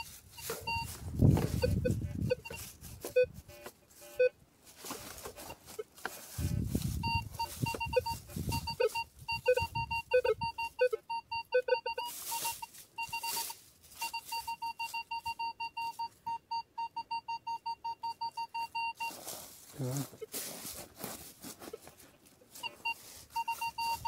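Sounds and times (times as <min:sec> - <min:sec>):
metal detector beeping: 0:00.0 - 0:19.4, 0:22.5 - 0:24.0.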